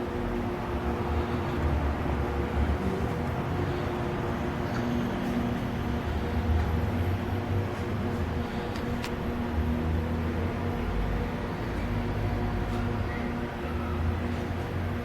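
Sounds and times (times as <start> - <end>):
lathe machine hum: 0.0 - 15.0.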